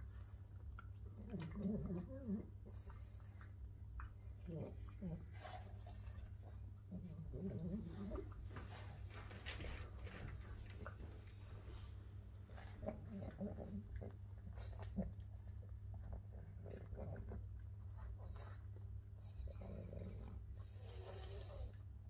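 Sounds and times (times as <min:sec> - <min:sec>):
dog chewing and crunching: 0:00.0 - 0:21.1.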